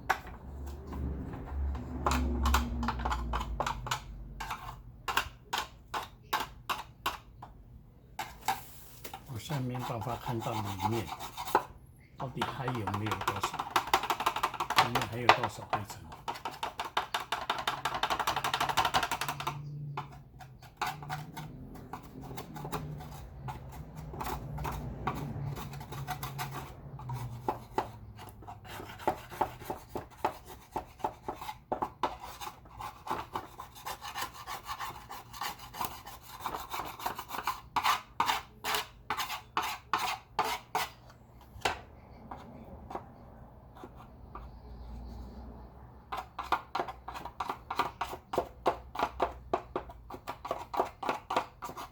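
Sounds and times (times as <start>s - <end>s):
hard plastic scraping and clicking: 0.0s - 7.6s, 8.2s - 43.1s.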